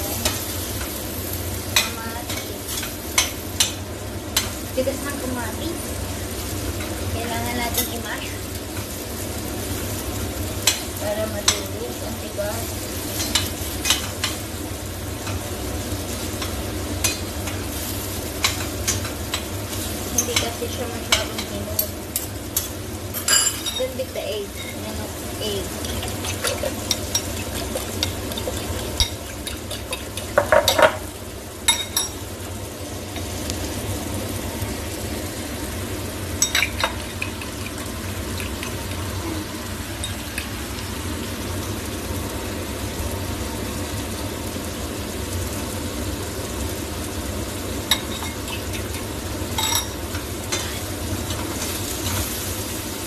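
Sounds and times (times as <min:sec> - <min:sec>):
vegetables sizzling in a frying pan: 0:00.0 - 0:53.0.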